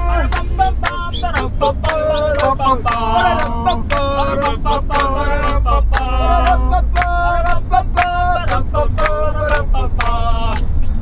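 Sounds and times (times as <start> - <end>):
voices singing: 0.0 - 10.8
steady low rumble: 0.0 - 11.0.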